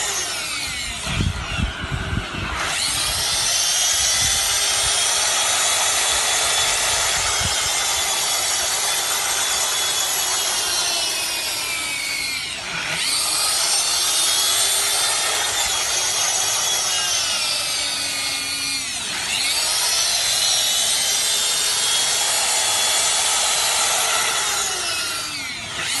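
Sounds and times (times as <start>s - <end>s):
electric grinder whining: 0.0s - 26.0s.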